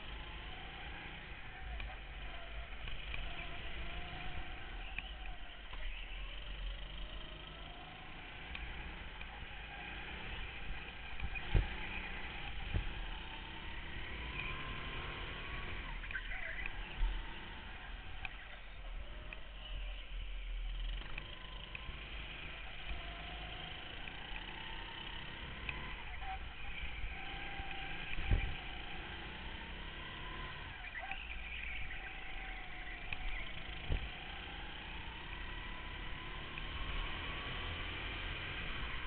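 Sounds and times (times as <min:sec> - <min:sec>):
go-kart engines: 0:00.0 - 0:39.0.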